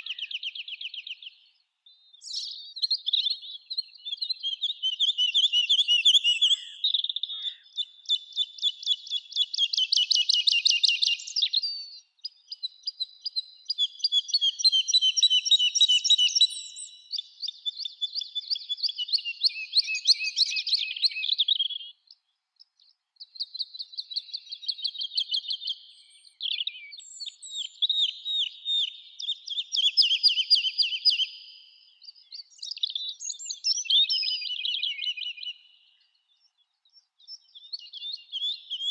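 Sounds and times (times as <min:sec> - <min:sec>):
songbird trilling and chirping: 0:00.0 - 0:38.9.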